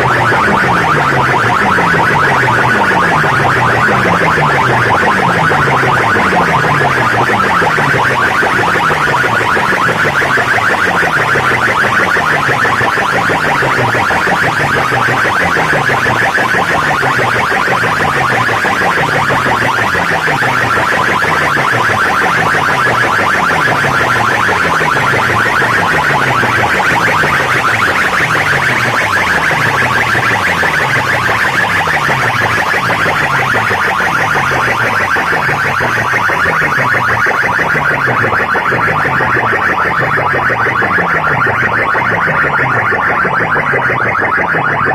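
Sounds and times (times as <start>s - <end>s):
electronic music with buzzing synth: 0.0s - 44.9s.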